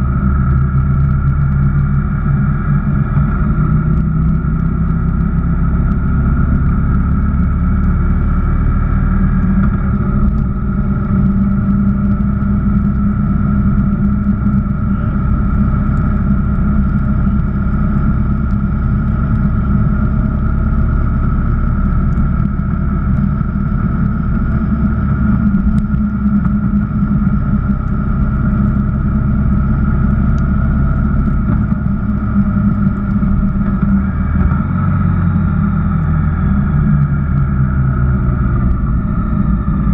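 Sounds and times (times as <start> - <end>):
motorcycle engine cruising: 0.0 - 39.9
wind and tyre noise on wet road: 0.0 - 39.9.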